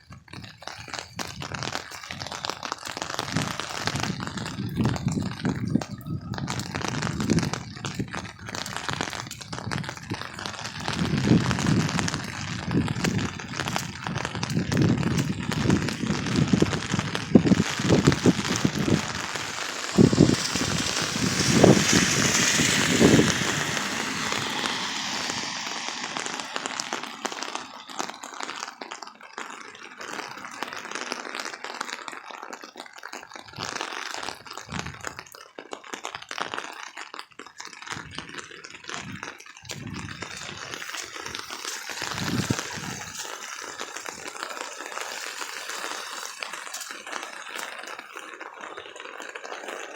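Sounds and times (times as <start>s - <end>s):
heavy rain pouring: 0.4s - 32.2s, 38.9s - 49.9s.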